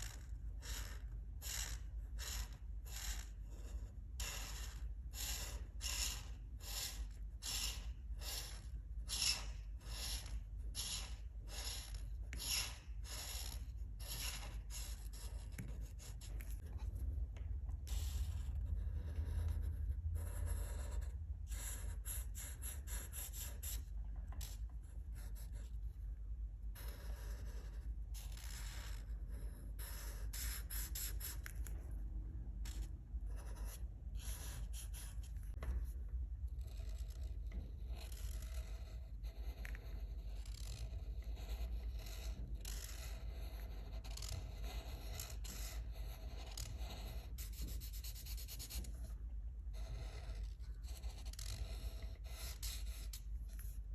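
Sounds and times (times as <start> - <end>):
crayon scratching on paper: 0.0 - 53.9
steady low hum: 0.0 - 53.9.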